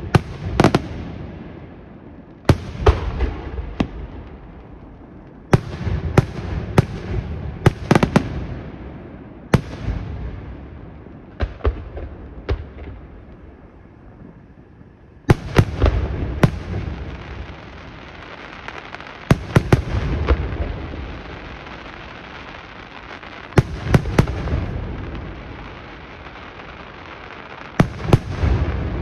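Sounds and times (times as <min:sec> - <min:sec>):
firework bangs: 0:00.0 - 0:14.6, 0:15.2 - 0:29.0.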